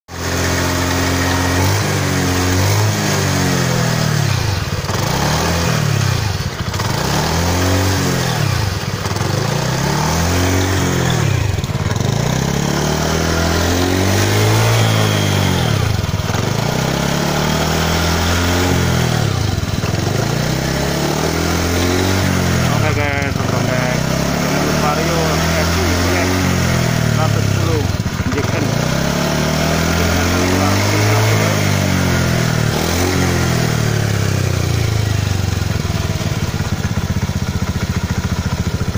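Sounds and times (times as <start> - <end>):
scooter engine running: 0.1 - 38.9.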